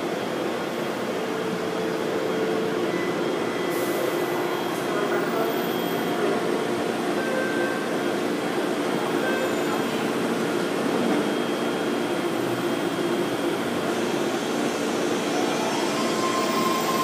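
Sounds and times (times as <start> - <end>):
train equipment whirring hum: 0.0 - 17.0.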